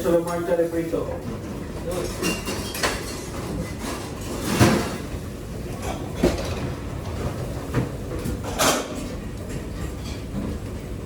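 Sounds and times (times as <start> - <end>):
kitchen low rumble: 0.0 - 11.0.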